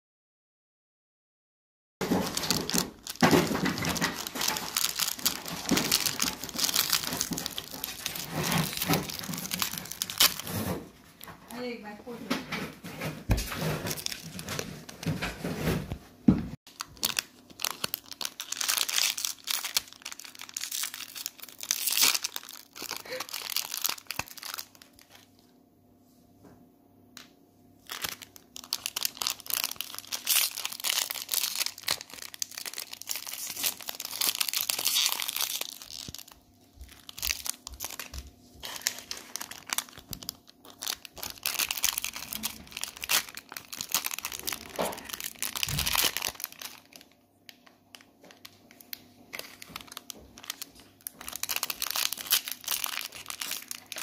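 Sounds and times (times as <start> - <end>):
packaging crinkled and torn: 2.0 - 11.8, 13.0 - 15.9, 16.7 - 25.5, 27.8 - 54.0.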